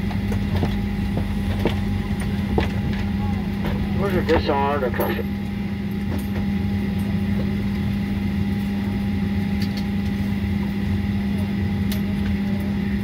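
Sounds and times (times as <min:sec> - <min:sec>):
cabin air running: 0:00.0 - 0:13.0
jet engines idling: 0:00.0 - 0:13.0.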